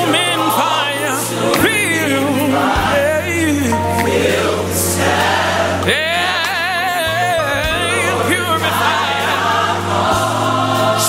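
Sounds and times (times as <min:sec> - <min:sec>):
bass line: 0:00.0 - 0:11.0
choir singing gospel: 0:00.0 - 0:11.0
lead voice singing: 0:00.0 - 0:11.0.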